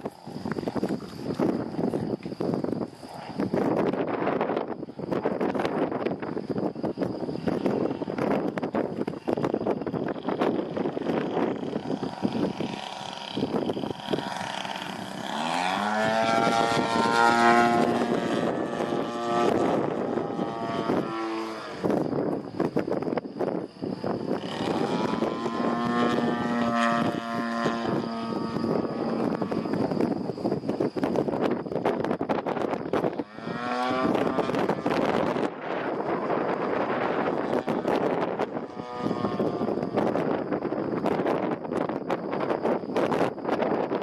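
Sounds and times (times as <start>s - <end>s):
propeller plane engine: 0.0s - 44.0s
wind buffeting microphone: 0.0s - 44.0s.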